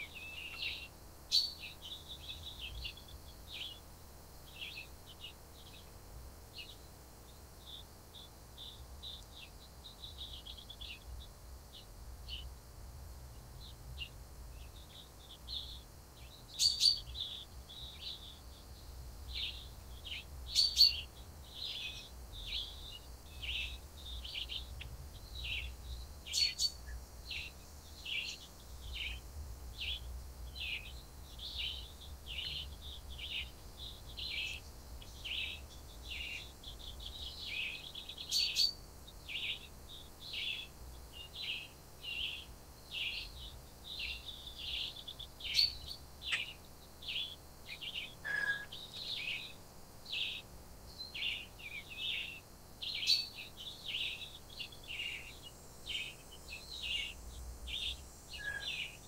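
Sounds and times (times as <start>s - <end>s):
birds chirping: 0.0s - 6.0s, 13.6s - 59.0s.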